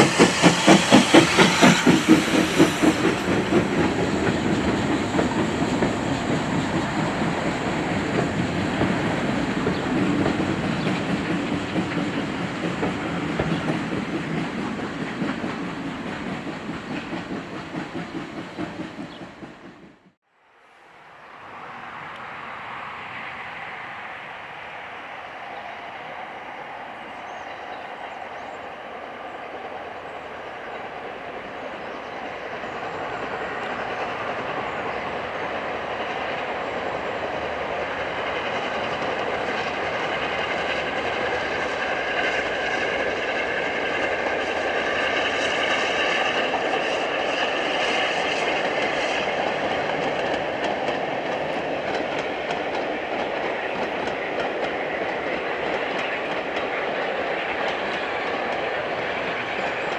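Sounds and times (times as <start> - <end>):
train wheels clattering on rails: 0.0 - 20.2, 27.0 - 59.9.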